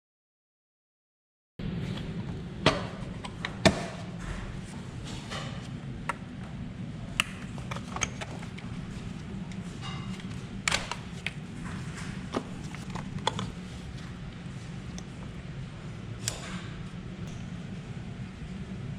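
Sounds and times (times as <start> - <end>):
steady low hum: 1.6 - 18.9.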